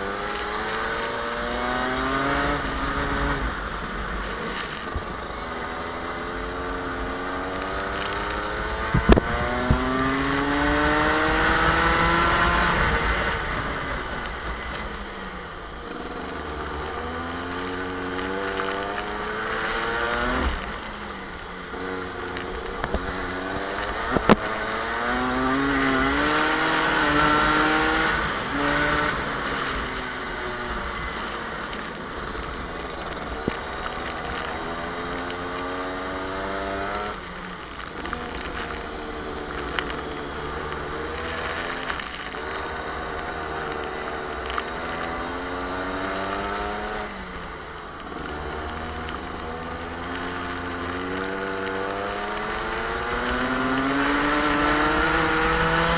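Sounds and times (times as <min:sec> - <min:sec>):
kart engine racing: 0:00.0 - 0:55.9.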